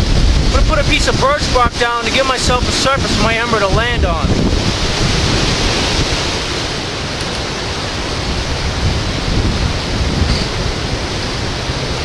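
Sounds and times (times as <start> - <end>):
low wind rumbles: 0.0 - 12.0
wind and rain rushing: 0.0 - 12.0.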